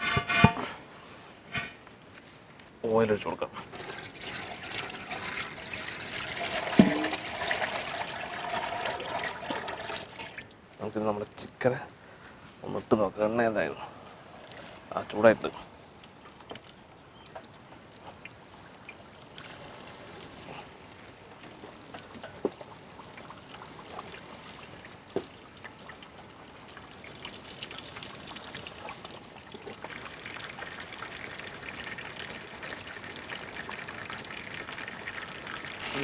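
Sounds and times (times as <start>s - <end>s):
oil bubbling and crackling: 3.6s - 11.4s, 13.6s - 36.0s.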